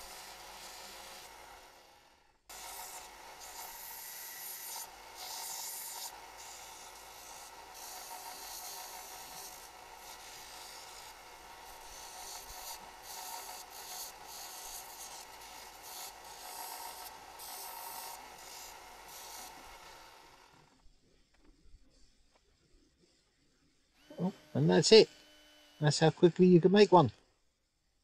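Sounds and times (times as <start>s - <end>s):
belt sander rasping on wood: 0.0s - 20.4s, 24.0s - 26.1s.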